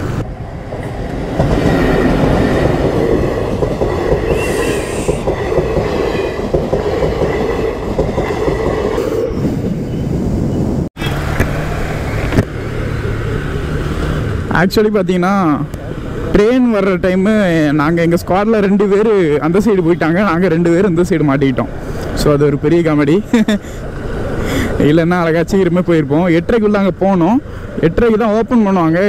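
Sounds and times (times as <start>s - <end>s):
train passing with clatter: 0.0s - 29.0s.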